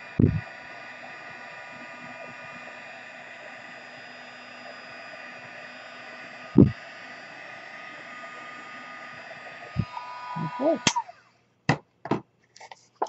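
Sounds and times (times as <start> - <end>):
heat gun blowing: 0.0 - 11.4.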